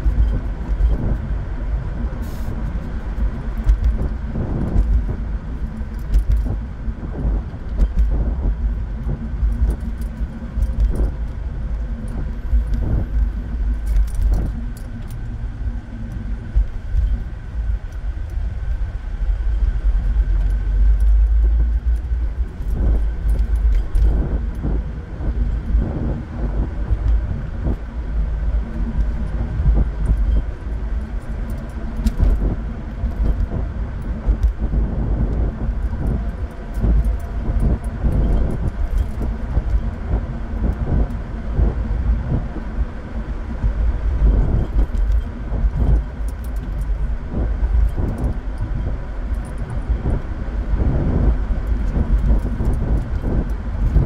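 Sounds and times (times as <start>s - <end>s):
light rattles and clicks: 0.0s - 54.0s
tyre and engine rumble: 0.0s - 54.0s.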